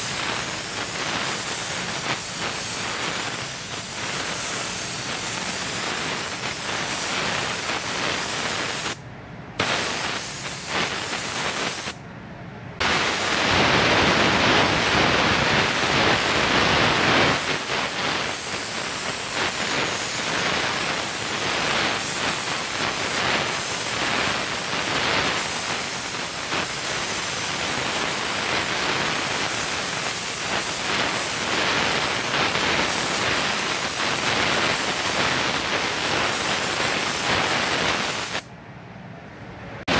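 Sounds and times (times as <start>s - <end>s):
spray gun hissing: 0.0s - 9.0s, 9.6s - 12.0s, 12.8s - 38.5s.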